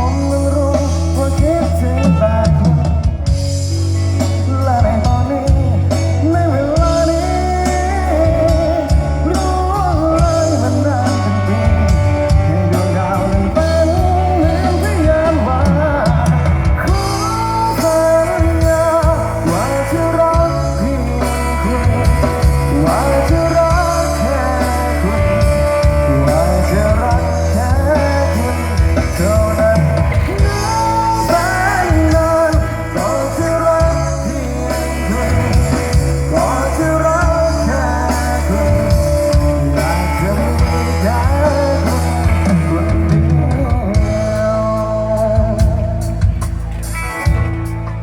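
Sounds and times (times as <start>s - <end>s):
person singing with vibrato: 0.0s - 46.7s
rock-pop band playing: 0.0s - 48.0s.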